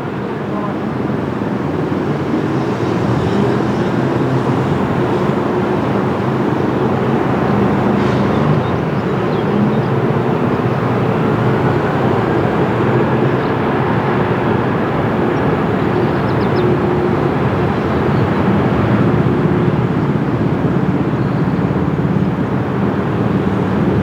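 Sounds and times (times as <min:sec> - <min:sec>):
jet engines running: 0:00.7 - 0:24.0.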